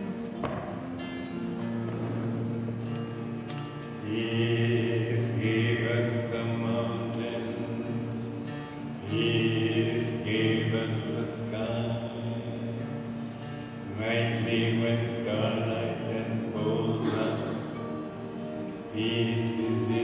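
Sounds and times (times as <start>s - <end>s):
small choir singing: 1.9s - 20.0s.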